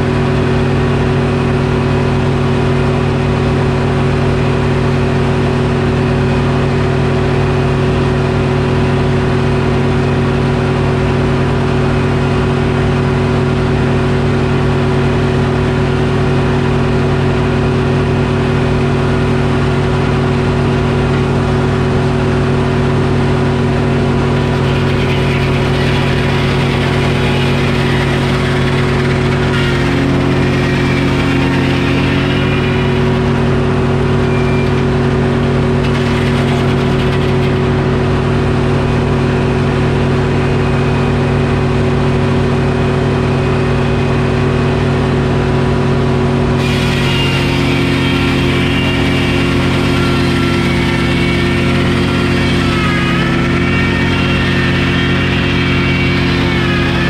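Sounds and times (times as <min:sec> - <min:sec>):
saw cutting through log: 0:00.0 - 0:44.2, 0:46.4 - 0:57.0
diesel engine running: 0:00.0 - 0:57.0.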